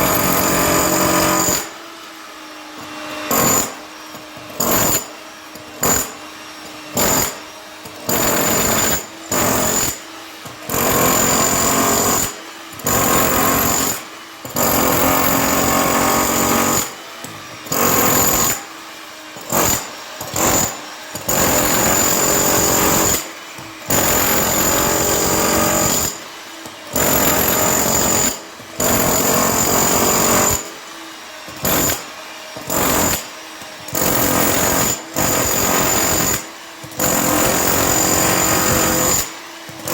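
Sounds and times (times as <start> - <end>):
hammer drill into concrete: 0.0 - 39.9.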